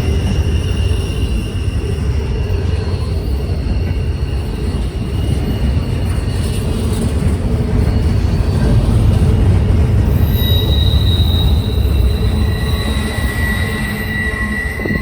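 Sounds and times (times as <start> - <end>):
train rumbling past: 0.0 - 15.0
wheel squeals: 0.0 - 15.0.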